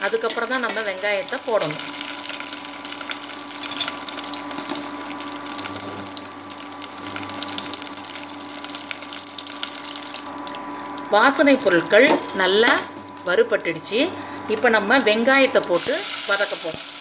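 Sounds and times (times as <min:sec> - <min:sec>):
cooktop electric hum and whine: 0:00.0 - 0:17.0
spices sizzling in hot oil: 0:00.0 - 0:17.0.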